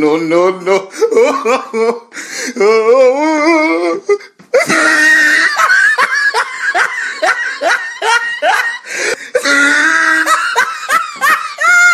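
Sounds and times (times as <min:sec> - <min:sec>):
person laughing hard: 0:00.9 - 0:03.6, 0:04.5 - 0:11.9.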